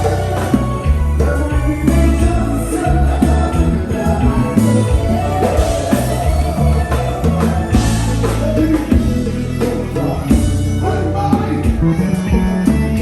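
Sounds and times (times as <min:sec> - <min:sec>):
drum strikes: 0:00.0 - 0:10.8
electric bass line: 0:00.0 - 0:13.0.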